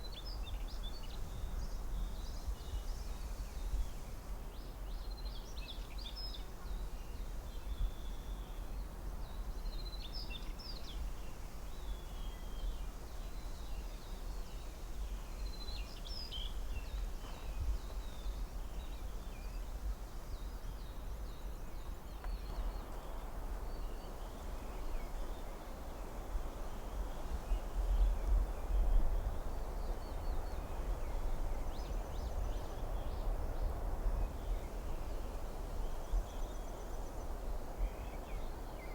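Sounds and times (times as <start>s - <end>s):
wind rushing through trees: 0.0s - 38.9s.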